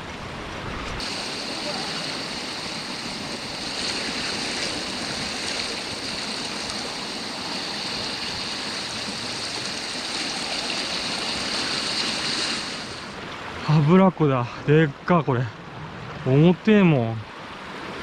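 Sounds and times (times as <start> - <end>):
sea surf on rocky shore: 0.0 - 18.0.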